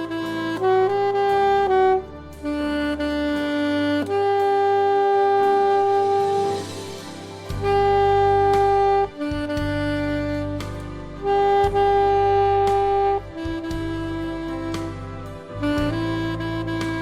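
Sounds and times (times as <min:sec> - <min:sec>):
low bass line: 0:00.0 - 0:06.8, 0:07.5 - 0:17.0
long held melody notes: 0:00.0 - 0:17.0.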